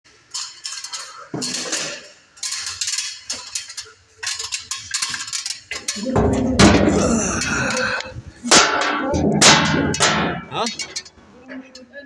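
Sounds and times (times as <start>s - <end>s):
metal objects clinking and rattling: 0.1s - 11.2s.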